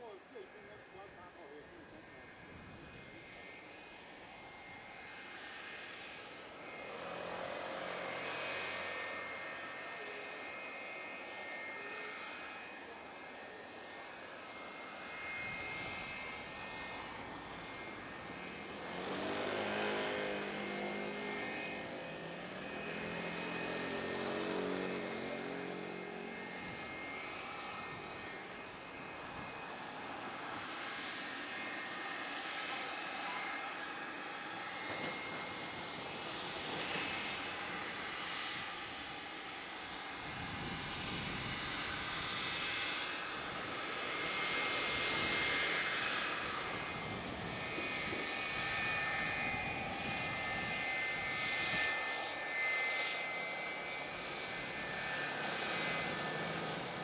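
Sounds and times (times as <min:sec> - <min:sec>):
jet engines whining: 0:00.1 - 0:57.0.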